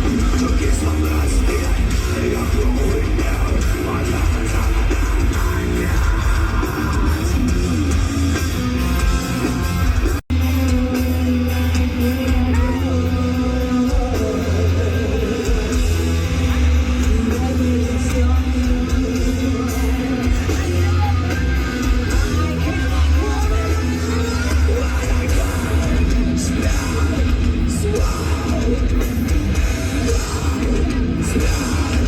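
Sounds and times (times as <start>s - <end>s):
live heavy metal music: 0.0s - 32.0s.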